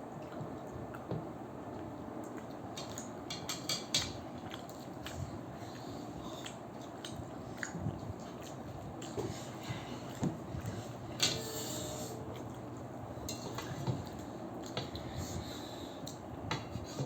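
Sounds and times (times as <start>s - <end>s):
people chewing: 0.0s - 16.8s.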